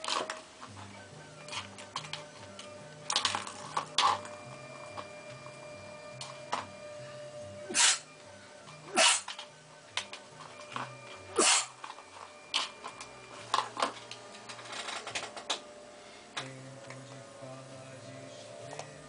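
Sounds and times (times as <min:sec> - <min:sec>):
faint music: 0:00.0 - 0:19.0.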